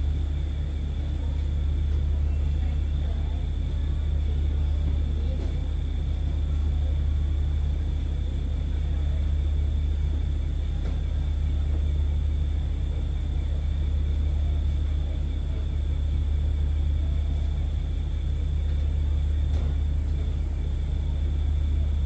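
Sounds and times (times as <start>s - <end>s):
diesel train engine running: 0.0s - 22.0s.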